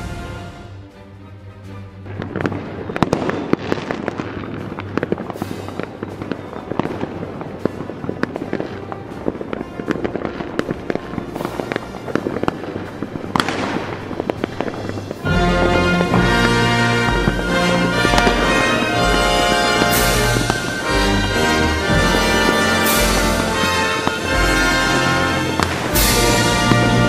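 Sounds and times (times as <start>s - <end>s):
fireworks bursting and crackling: 0.0s - 0.8s, 2.0s - 27.0s
music: 0.0s - 27.0s.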